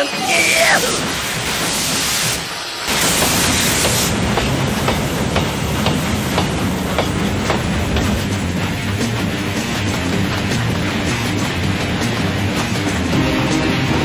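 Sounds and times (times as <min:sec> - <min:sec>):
steam hiss: 0:00.0 - 0:13.1
steam locomotive chuffing: 0:00.0 - 0:14.0.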